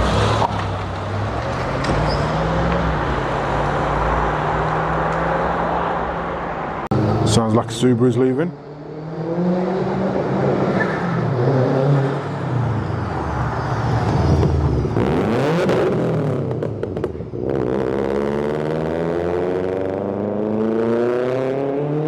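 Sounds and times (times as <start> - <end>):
car engines revving and accelerating: 0.0 - 22.0.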